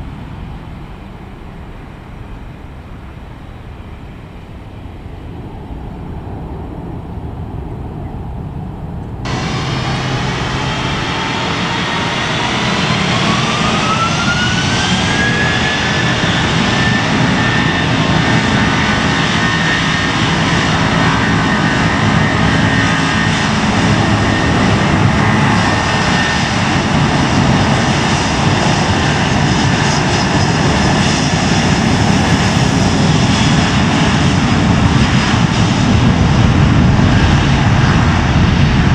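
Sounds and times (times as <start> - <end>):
distant jet rumble: 0.0 - 38.9
jet engines spooling up: 3.6 - 38.9.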